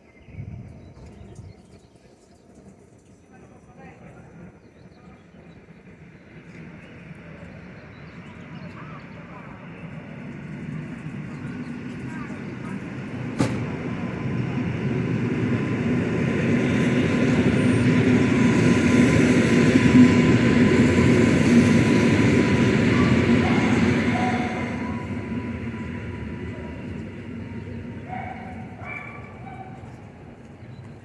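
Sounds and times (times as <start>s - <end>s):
passenger train rumbling past: 2.6s - 31.0s.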